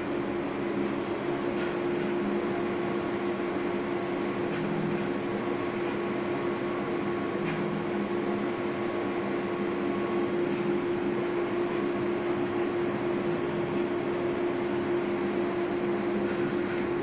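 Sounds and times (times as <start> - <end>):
printer machine hum: 0.0 - 17.0.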